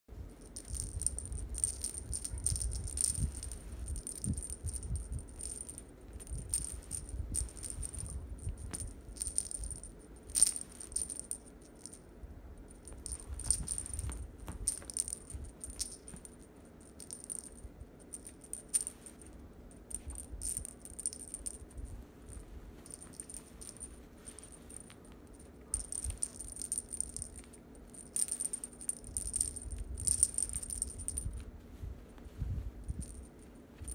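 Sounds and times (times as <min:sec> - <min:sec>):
cat toy rattling and jingling: 0:00.4 - 0:12.0, 0:12.7 - 0:31.4.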